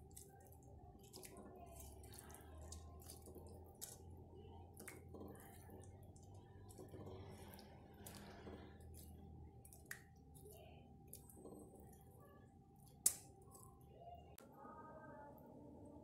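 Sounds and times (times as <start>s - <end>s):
soft squishes of food: 0.0s - 15.3s.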